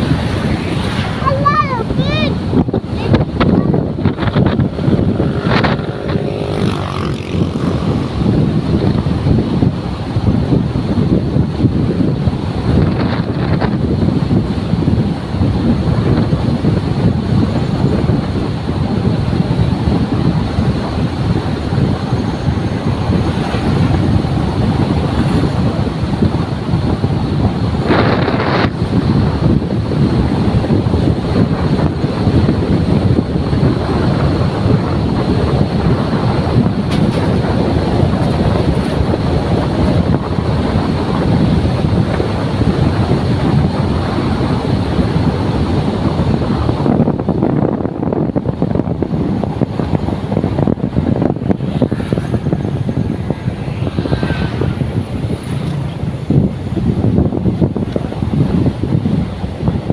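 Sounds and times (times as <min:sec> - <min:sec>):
moving vehicle rumble: 0:00.0 - 0:59.9
wind buffeting microphone: 0:00.0 - 0:59.9.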